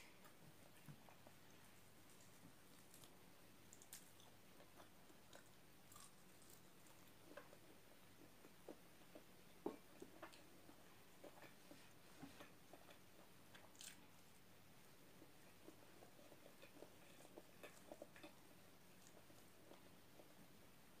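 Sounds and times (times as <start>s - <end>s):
chewing fried chicken: 0.2s - 21.0s.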